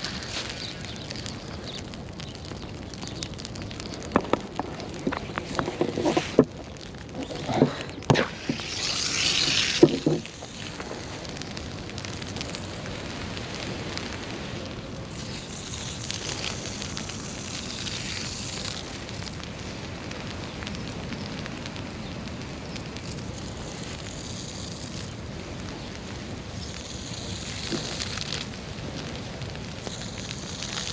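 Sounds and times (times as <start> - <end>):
dry grass burning crackle: 0.0 - 30.9
torch burner hissing: 0.0 - 30.9.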